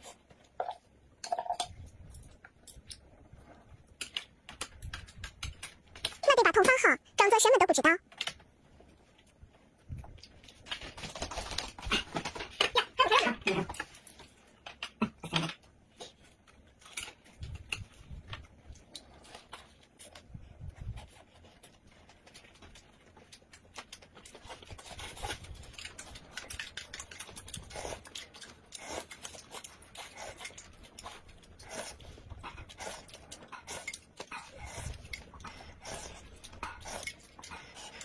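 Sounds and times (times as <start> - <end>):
people chewing and crunching: 0.0 - 6.8, 8.1 - 38.0.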